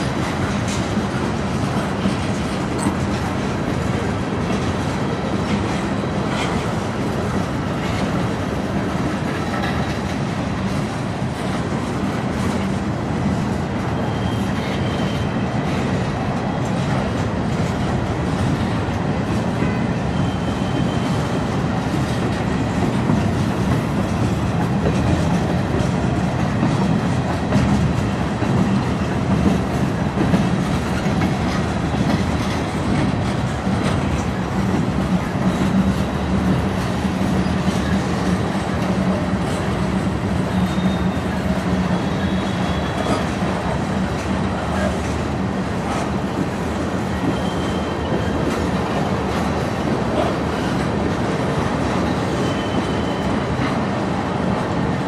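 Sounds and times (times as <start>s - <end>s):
wheels clicking over rail joints: 0.0s - 13.5s, 21.1s - 53.8s
train wheels rumbling on rails: 0.0s - 55.0s.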